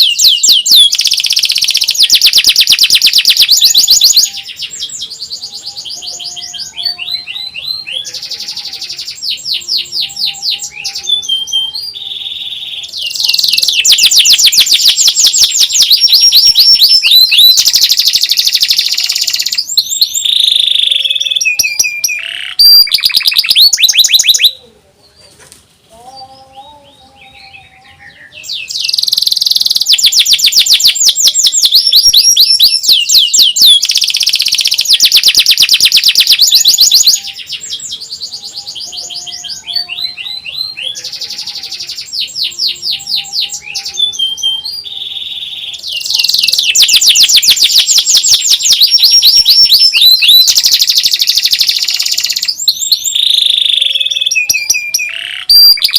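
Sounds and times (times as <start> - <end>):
canary singing fast trills: 0.0 - 24.6, 26.2 - 55.9.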